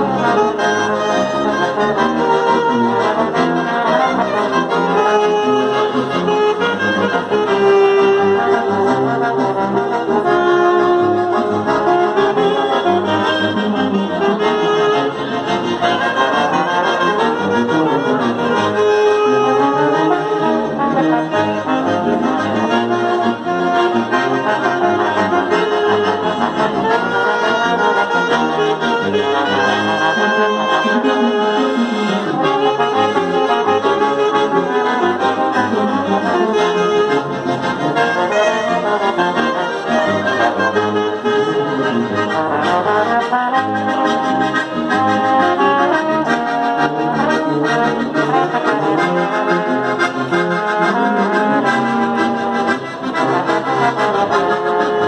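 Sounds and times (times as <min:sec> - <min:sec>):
trombone: 0:00.0 - 0:50.1
small band playing a tune: 0:00.0 - 0:55.0.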